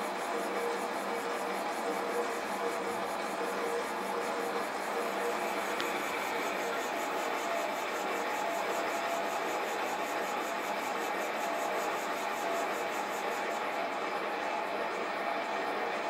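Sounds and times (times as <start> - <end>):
lathe whirring: 0.0 - 16.0.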